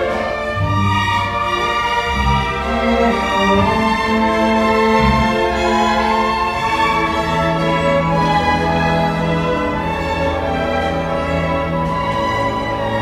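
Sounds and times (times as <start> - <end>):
violins bowing sustained notes: 0.0 - 13.0.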